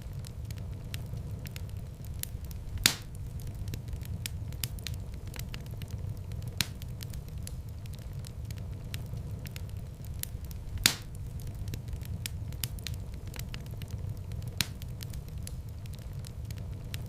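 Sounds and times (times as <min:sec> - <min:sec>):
loud fire pops: 0:00.0 - 0:17.0
low rumble of flame: 0:00.0 - 0:17.0
wood fire crackling: 0:00.0 - 0:17.0.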